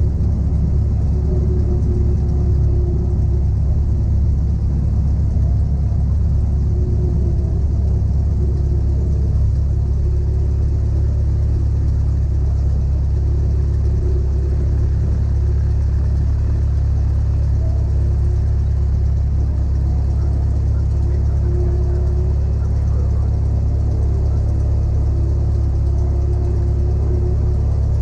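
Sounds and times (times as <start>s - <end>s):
light aircraft engine and propeller: 0.0s - 28.0s.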